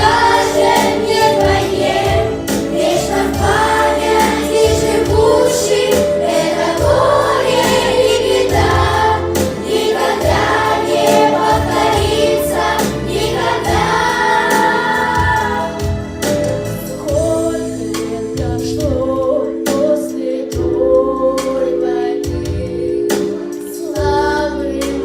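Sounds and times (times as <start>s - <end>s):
children's choir singing: 0.0s - 16.2s, 17.0s - 25.0s
instrumental accompaniment: 0.0s - 25.0s.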